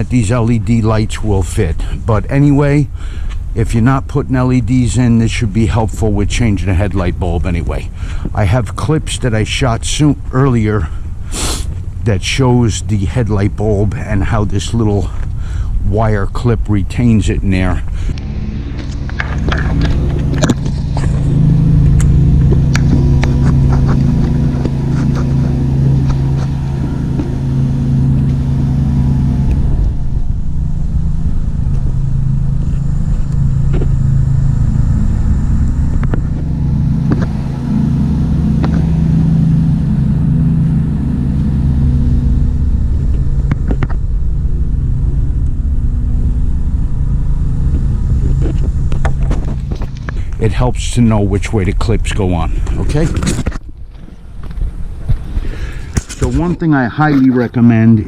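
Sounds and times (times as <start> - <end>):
low mechanical rumble: 0.0 - 58.0.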